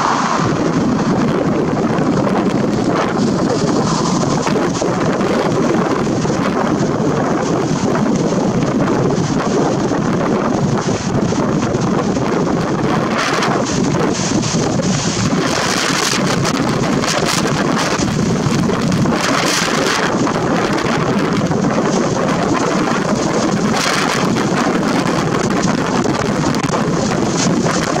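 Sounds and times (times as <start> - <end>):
storm wind on microphone: 0.0 - 28.0.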